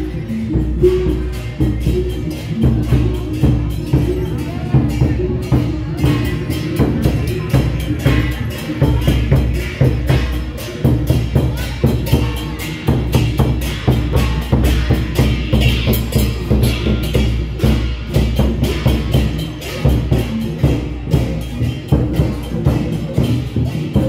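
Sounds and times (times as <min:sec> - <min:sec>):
clacking percussion: 0:00.0 - 0:24.0
percussion band drumming: 0:00.0 - 0:24.0.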